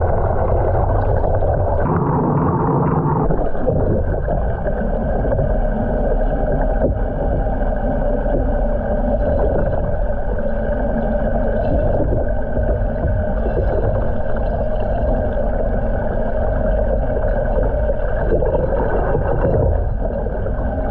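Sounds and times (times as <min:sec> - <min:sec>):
faint steady hum: 0:00.0 - 0:20.9
water churning in a vortex: 0:00.0 - 0:20.9.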